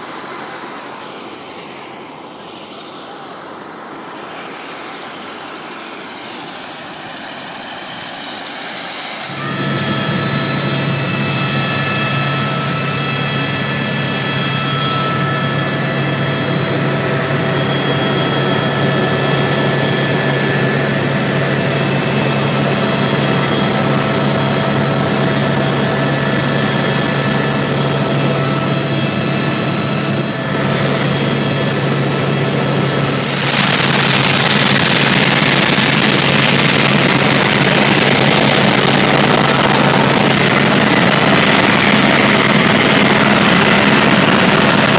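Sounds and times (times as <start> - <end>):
helicopter engine and rotor drone: 0.0 - 44.9
high whining tones: 1.0 - 44.9.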